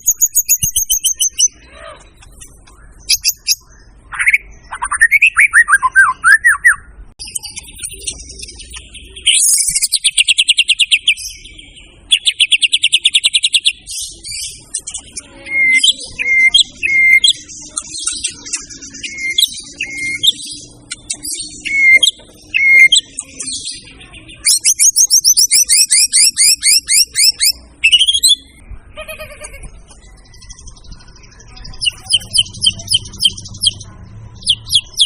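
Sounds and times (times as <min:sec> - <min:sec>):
bird singing varied song: 0:00.0 - 0:35.0.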